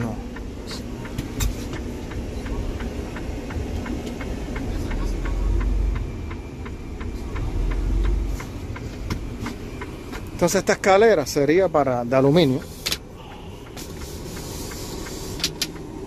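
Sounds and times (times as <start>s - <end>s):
light ticking: 0.0s - 16.0s
truck engine idling: 0.0s - 16.0s.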